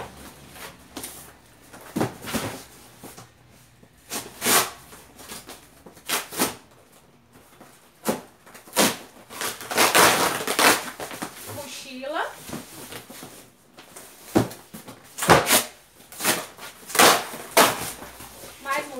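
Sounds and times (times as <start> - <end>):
cardboard boxes tearing and rustling: 0.0 - 3.2, 4.0 - 11.6, 12.4 - 18.9.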